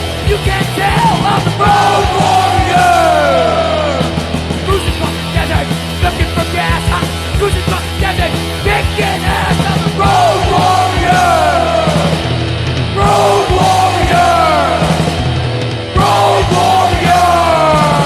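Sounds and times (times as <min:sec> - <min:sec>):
punk band playing: 0:00.0 - 0:18.0.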